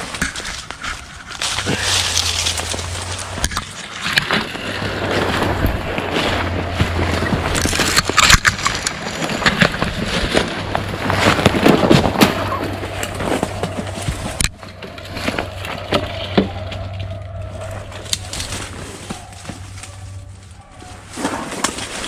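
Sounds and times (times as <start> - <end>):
brush rustling: 0.0 - 22.0
twigs snapping underfoot: 0.0 - 22.0.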